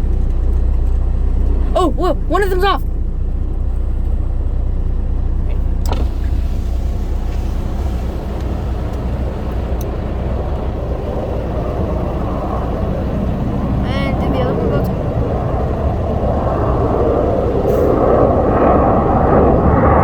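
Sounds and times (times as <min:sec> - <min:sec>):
engine rumble: 0:00.0 - 0:20.0
rushing roar: 0:01.4 - 0:20.0.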